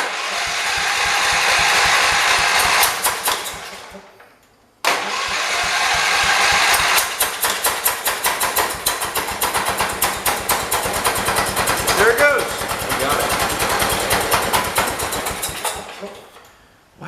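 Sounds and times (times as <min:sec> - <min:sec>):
lawn tractor engine running roughly: 0:00.0 - 0:04.0, 0:04.9 - 0:16.4
engine cranking: 0:00.0 - 0:04.2, 0:04.9 - 0:16.5.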